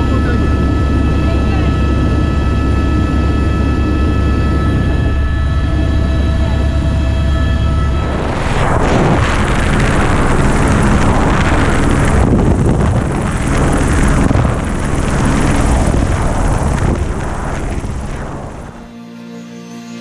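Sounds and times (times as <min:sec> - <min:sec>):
wind rushing over microphone: 0:00.0 - 0:18.9
helicopter engine and rotor: 0:00.0 - 0:19.0.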